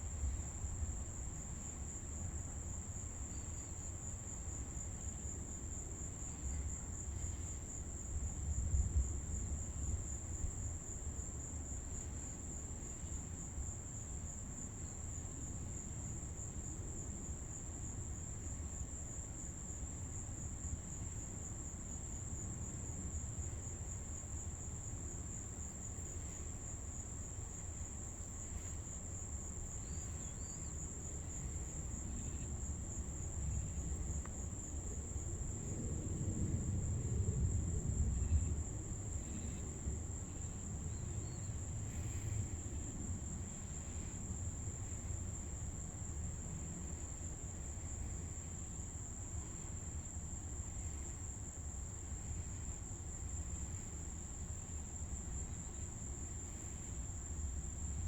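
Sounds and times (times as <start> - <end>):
night insects chirping: 0.0 - 58.0.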